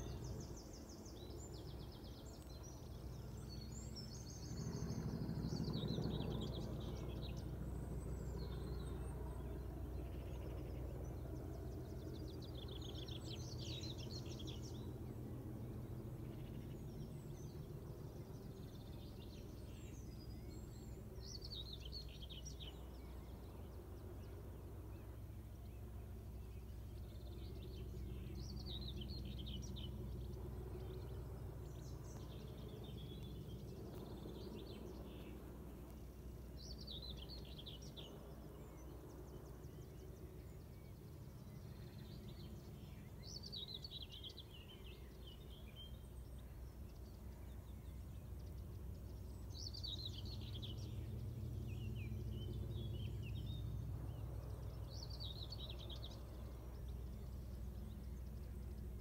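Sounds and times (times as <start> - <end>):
small birds chirping: 0.0 - 59.0
steady low hum: 0.0 - 59.0.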